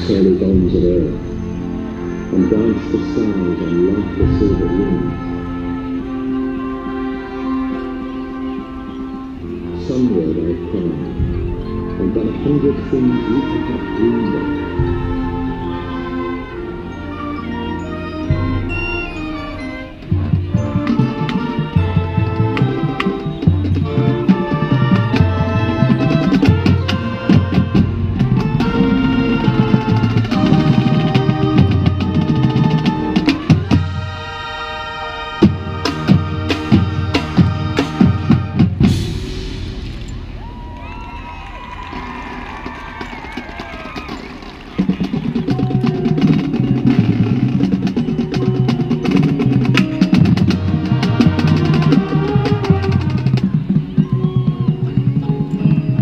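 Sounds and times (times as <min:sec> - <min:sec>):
drumline strikes: 0:00.0 - 0:56.0
low brass notes: 0:00.0 - 0:56.0
marching band playing: 0:00.0 - 0:56.0.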